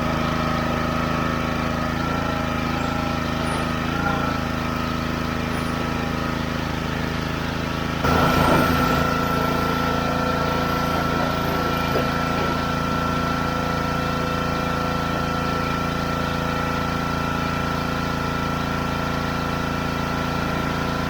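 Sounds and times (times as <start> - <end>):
pressure washer running: 0.0 - 21.0.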